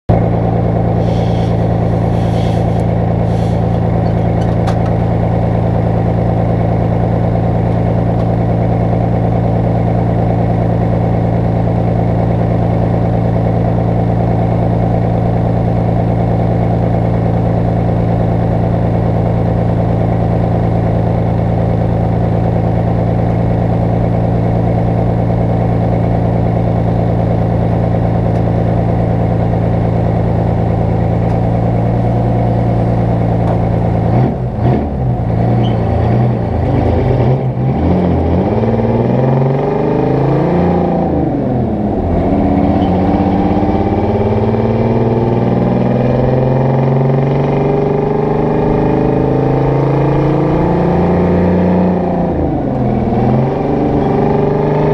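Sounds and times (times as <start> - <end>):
diesel engine idling: 0.1 - 54.9.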